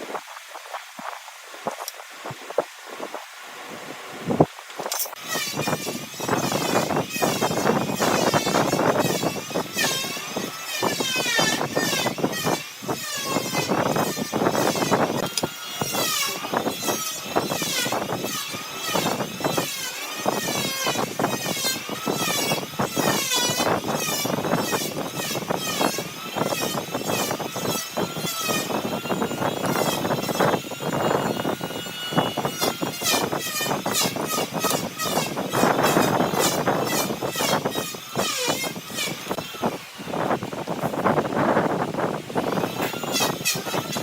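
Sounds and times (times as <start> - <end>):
wood lathe tool rasping wood: 4.8 - 44.0.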